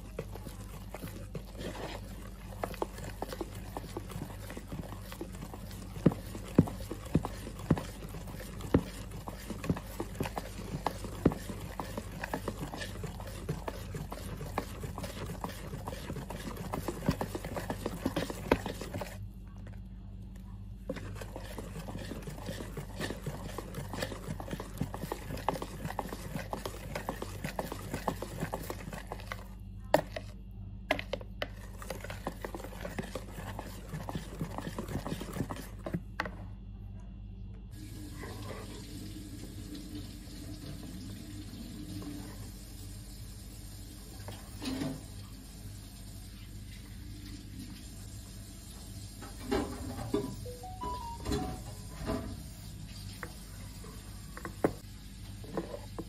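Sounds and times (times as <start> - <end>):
whisk beating batter in plastic bowl: 0.0 - 36.5, 40.8 - 45.3, 49.2 - 52.4, 53.0 - 56.0.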